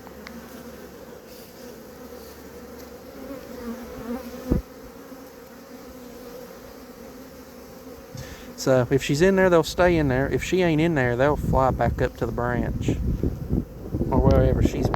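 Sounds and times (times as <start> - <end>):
bees buzzing: 0.0 - 14.9.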